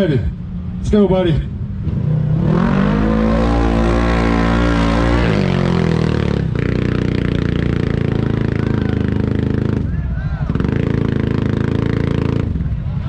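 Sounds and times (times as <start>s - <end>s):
atv engine revving: 1.5s - 13.0s.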